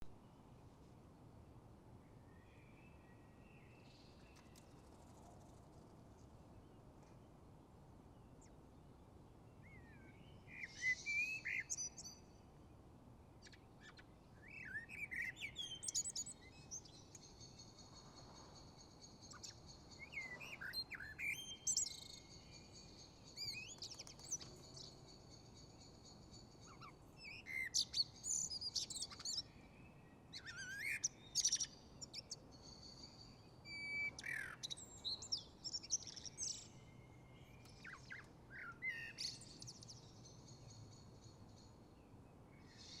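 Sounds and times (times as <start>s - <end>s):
songbirds singing and chirping: 1.9s - 5.6s, 6.2s - 43.0s.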